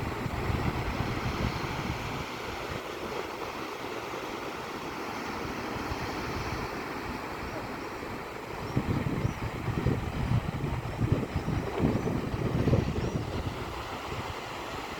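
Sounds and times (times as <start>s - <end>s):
wind buffeting microphone: 0.0s - 3.5s, 5.7s - 14.9s
sea surf washing on shore: 0.0s - 14.9s.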